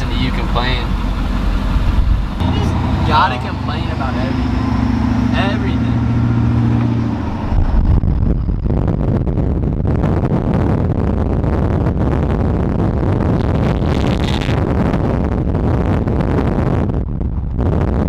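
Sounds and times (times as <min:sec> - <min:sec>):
truck engine humming: 0:00.0 - 0:18.0
wind buffeting microphone: 0:00.0 - 0:18.0.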